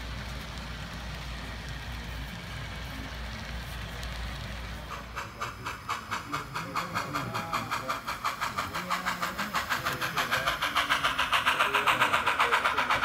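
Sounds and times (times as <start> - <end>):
low running rumble: 0.0 - 13.0
model steam locomotive chuffing: 0.0 - 13.0.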